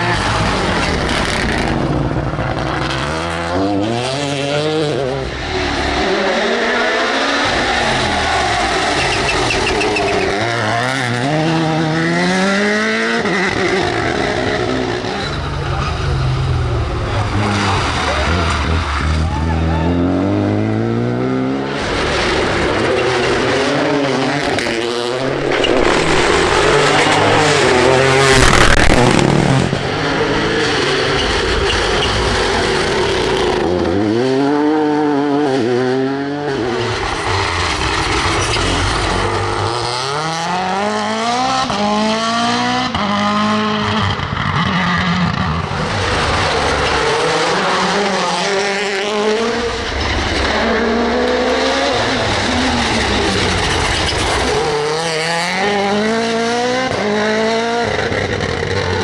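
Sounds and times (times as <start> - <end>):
car rushing past: 0.0 - 59.0
rally car engines revving: 0.0 - 59.0.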